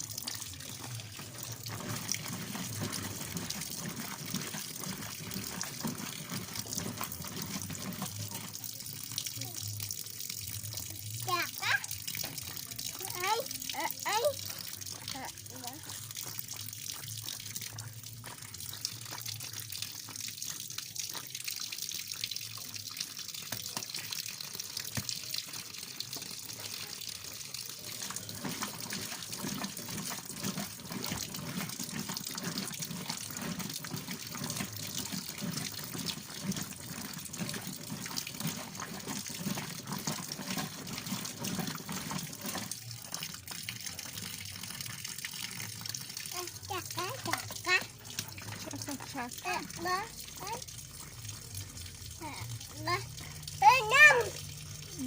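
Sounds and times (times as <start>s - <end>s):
washing machine water sloshing: 0.0s - 55.0s.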